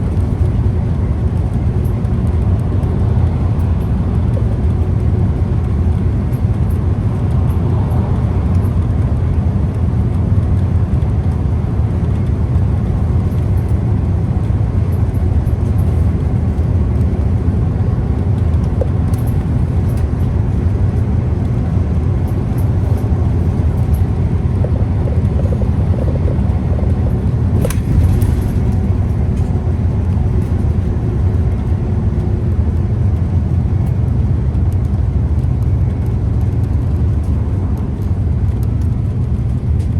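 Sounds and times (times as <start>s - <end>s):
bus engine rumbling: 0.0s - 39.9s.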